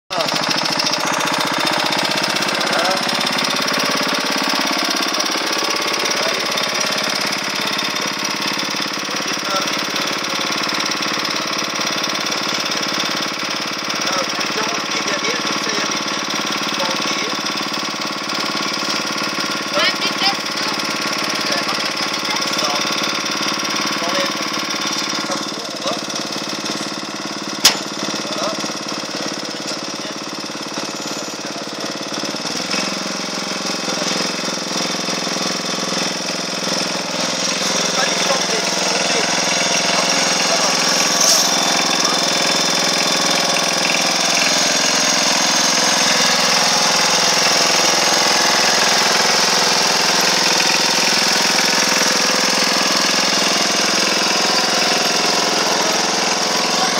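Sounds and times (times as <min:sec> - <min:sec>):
riding lawn mower engine: 0:00.1 - 0:56.9.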